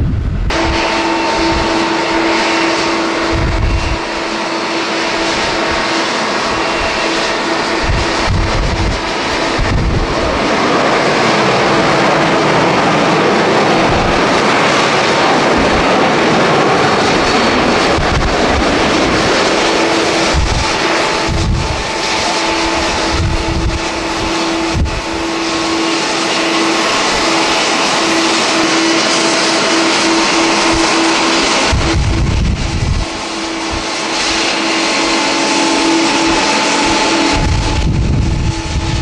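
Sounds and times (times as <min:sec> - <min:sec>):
jet engines at takeoff: 0:00.0 - 0:39.0
wind buffeting microphone: 0:00.0 - 0:39.0.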